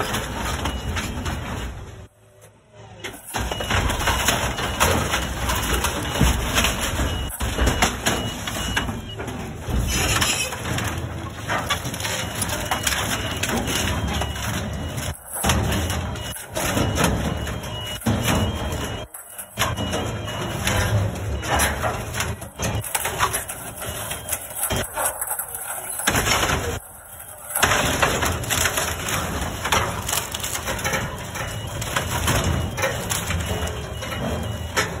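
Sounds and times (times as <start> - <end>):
wooden pallets cracking and splintering: 0.0 - 2.1, 3.0 - 35.0
compactor machine running: 0.0 - 35.0
truck engine rumble: 0.0 - 35.0.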